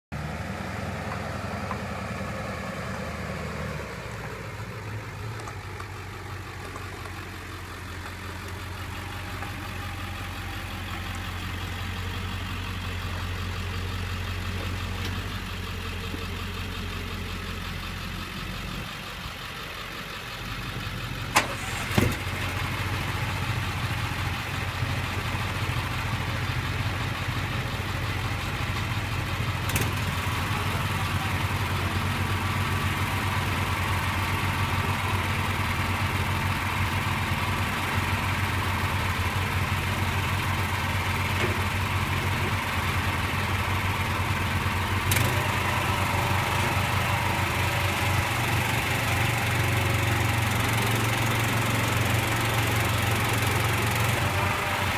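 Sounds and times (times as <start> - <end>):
pickup truck engine running: 0.1 - 54.9.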